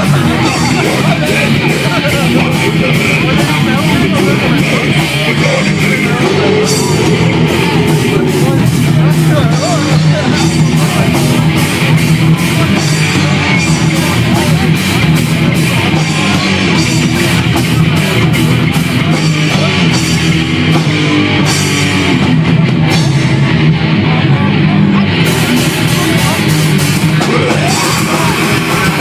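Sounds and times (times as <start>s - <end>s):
drum kit: 0.0s - 29.0s
electric guitar: 0.0s - 29.0s.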